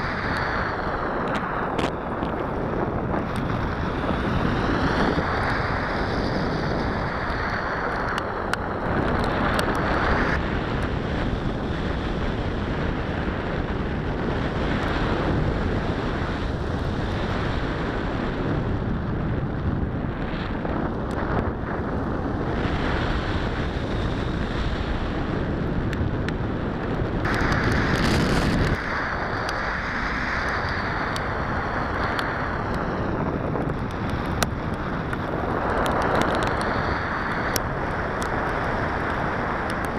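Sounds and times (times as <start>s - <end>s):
wind noise roaring on microphone: 0.0s - 39.9s.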